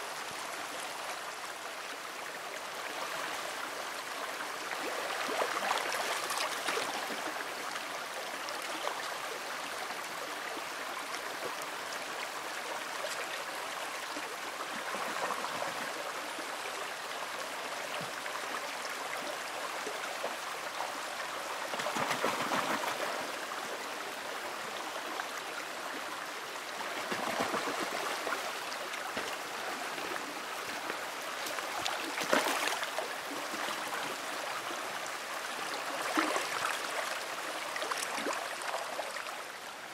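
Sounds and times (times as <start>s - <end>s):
creek water over rocks: 0.0s - 39.9s.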